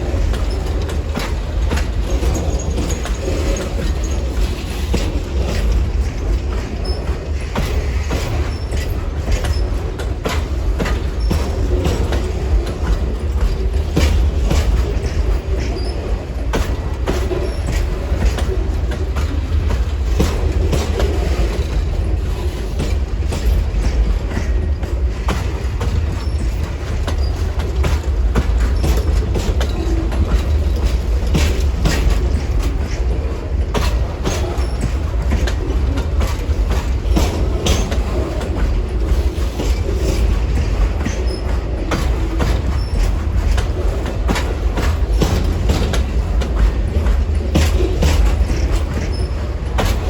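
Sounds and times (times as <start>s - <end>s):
train cars rumbling past: 0.0s - 50.0s
wheels clunking over rail joints: 0.0s - 50.0s.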